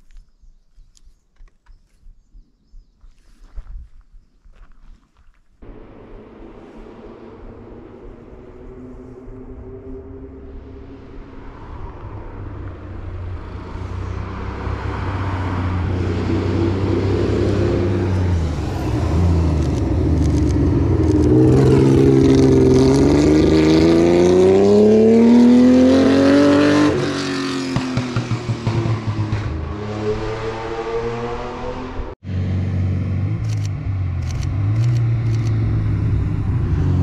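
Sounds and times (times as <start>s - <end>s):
race car engine accelerating past: 5.6s - 37.0s.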